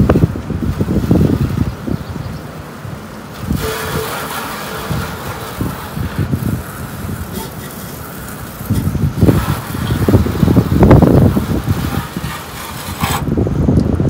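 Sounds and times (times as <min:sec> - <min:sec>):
pressure washer spraying water: 0:00.0 - 0:13.7
wind rumble on microphone: 0:00.0 - 0:14.0.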